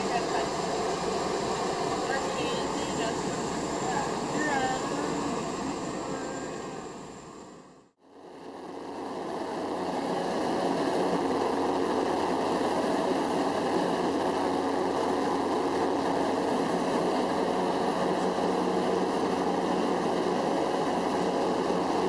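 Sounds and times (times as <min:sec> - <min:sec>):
propeller aircraft cabin drone: 0:00.0 - 0:22.0.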